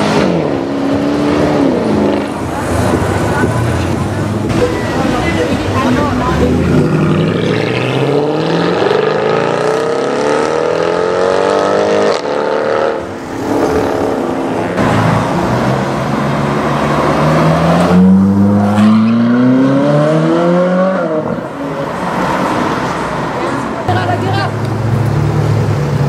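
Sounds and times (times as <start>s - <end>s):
car engines accelerating hard: 0.0s - 26.0s.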